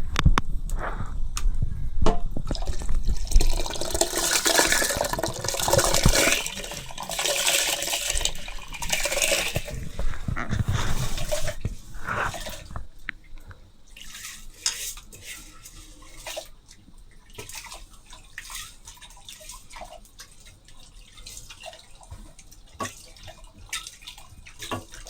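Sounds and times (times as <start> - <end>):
water splashing and pouring: 2.4 - 12.8, 13.9 - 25.0.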